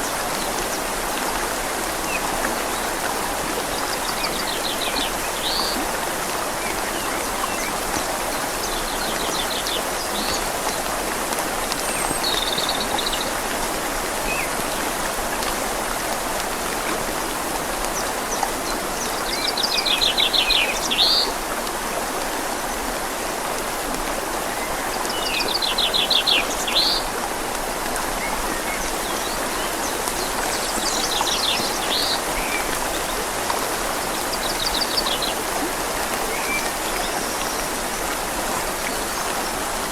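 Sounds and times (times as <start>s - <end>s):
rain: 0.0s - 39.9s
river rushing: 0.0s - 39.9s.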